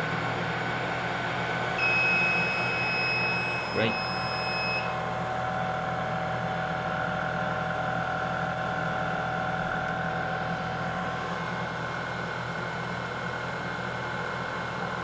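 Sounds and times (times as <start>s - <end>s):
machine whir with humming tones: 0.0s - 12.1s.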